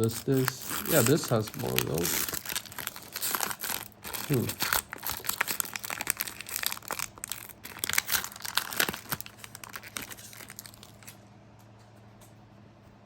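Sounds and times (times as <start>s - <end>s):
plastic wrapper crinkling: 0.0s - 11.2s.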